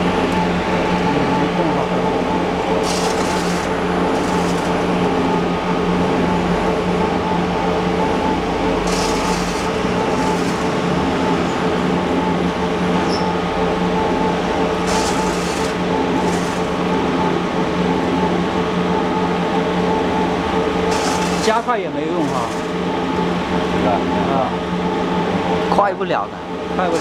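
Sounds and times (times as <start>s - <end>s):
industrial blender motor hum: 0.0s - 25.8s, 26.4s - 27.0s.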